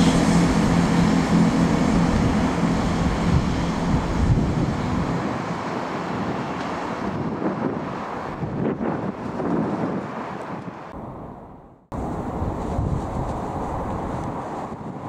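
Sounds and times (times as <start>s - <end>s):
diesel train engine drone: 0.0s - 15.0s
wind rumbling on microphone: 0.0s - 15.0s.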